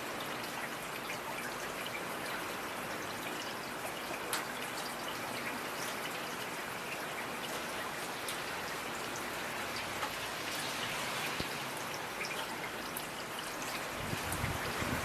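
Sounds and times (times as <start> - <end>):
rain pattering on hard surfaces: 0.0 - 15.0.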